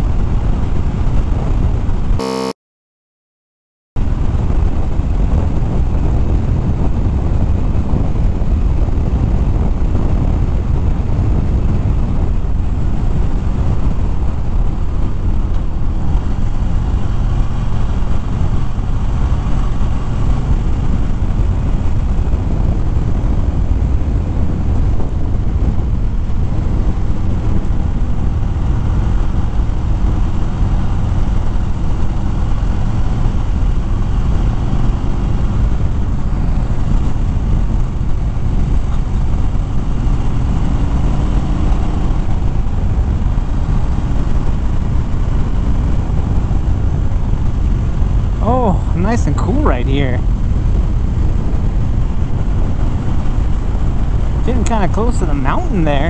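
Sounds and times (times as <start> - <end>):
wind rushing over microphone: 0.0 - 2.2, 4.0 - 56.0
motorcycle engine running: 0.0 - 2.5, 4.0 - 56.0.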